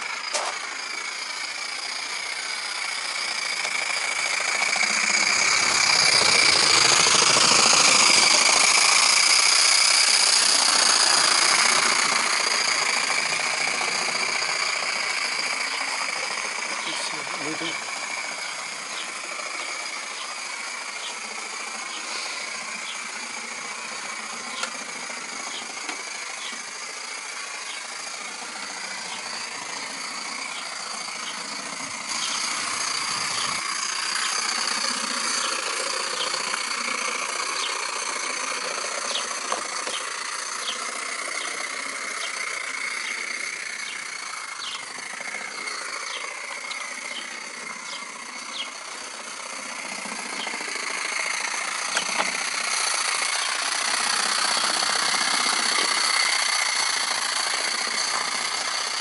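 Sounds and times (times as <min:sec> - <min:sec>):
model steam engine hissing: 0:00.0 - 0:59.0.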